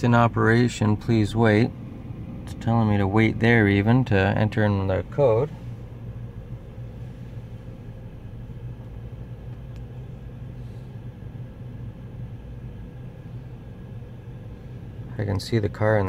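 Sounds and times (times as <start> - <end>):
car wash air dryers rumbling: 0.0 - 16.0.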